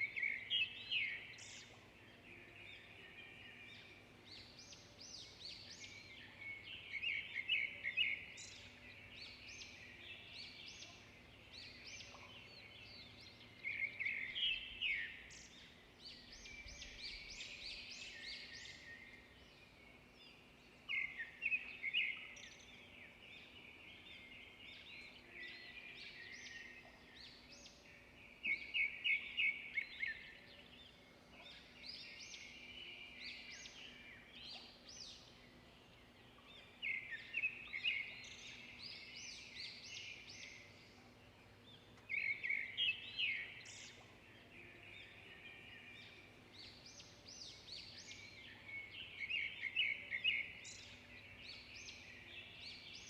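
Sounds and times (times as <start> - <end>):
birds singing and calling: 0.0 - 53.0.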